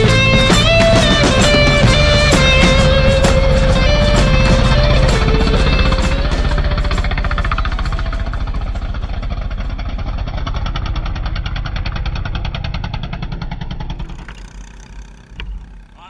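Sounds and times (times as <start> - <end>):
small racing engine running: 0.0 - 16.0.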